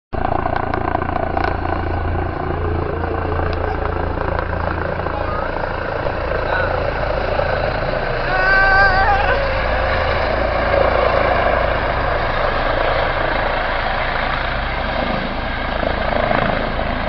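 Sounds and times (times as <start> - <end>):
helicopter turbine and rotor noise: 0.1 - 17.0.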